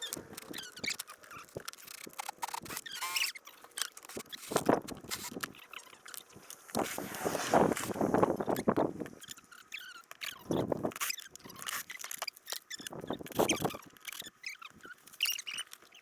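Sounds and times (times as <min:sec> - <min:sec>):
short squeak: 0:00.0 - 0:06.2, 0:06.9 - 0:16.0
plastic scraping rasps: 0:00.0 - 0:16.0.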